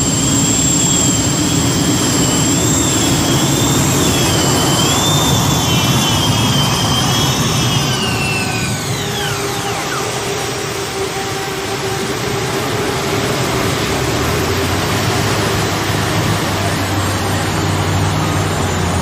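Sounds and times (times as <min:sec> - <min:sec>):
tractor engines running loud: 0:00.0 - 0:19.0.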